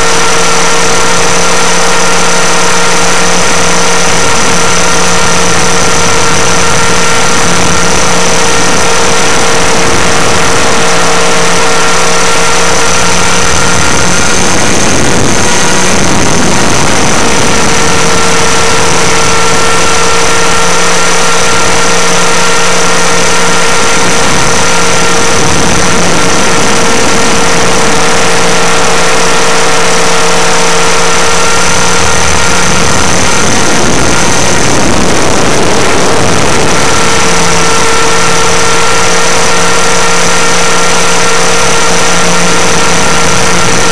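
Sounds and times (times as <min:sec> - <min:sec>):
electric motor whine: 0:00.0 - 0:43.9
helicopter rotor noise: 0:00.0 - 0:43.9.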